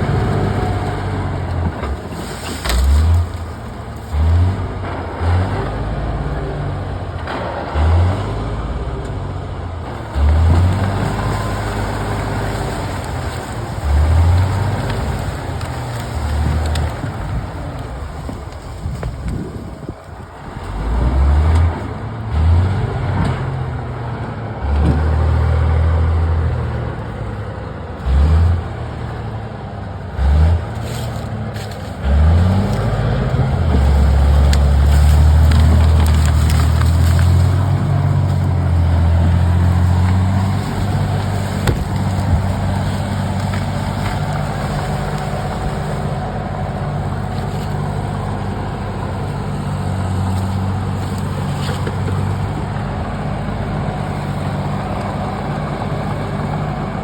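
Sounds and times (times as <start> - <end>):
bulldozer diesel engine revving: 0.0 - 57.0.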